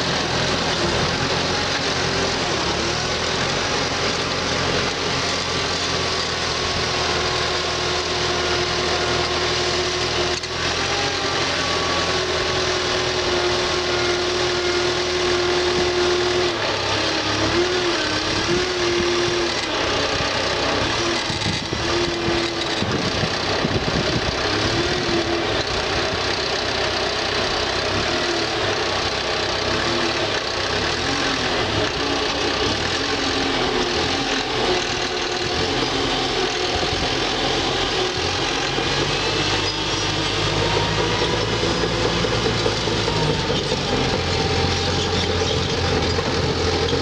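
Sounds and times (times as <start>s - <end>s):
dozer diesel engine under load: 0.0s - 47.0s.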